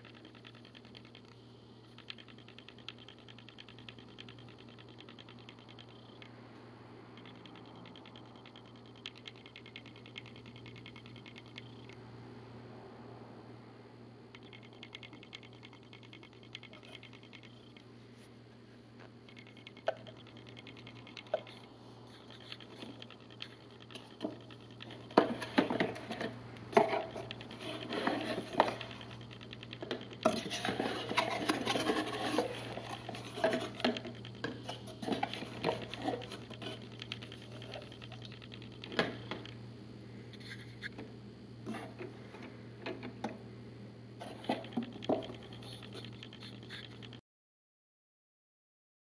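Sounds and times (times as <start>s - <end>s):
steady low hum: 0.0s - 47.2s.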